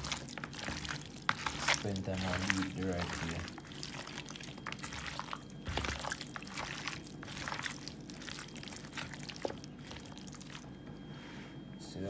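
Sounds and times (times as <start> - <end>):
wet squelching of raw chicken: 0.0 - 10.8.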